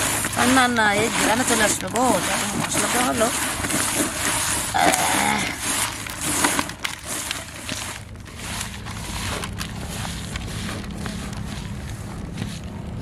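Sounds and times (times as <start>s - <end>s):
hand crunching grainy bait: 0.0s - 13.0s.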